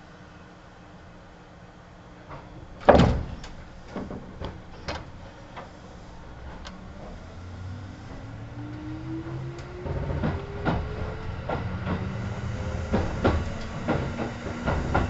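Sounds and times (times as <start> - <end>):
light clanks and knocks: 2.3 - 15.0
train bang: 2.3 - 15.0.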